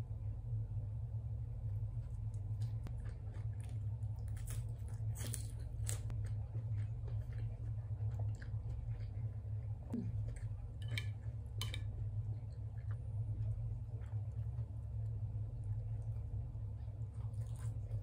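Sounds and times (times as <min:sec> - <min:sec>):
steady low hum: 0:00.0 - 0:18.0
person chewing food: 0:02.0 - 0:18.0.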